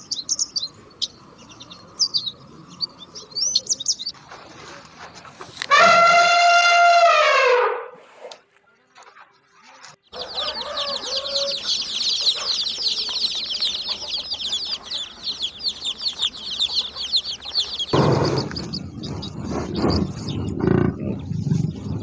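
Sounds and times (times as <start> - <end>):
chickens clucking: 0.0 - 6.0, 8.3 - 22.0
chickens chirping: 0.0 - 6.7, 8.7 - 22.0.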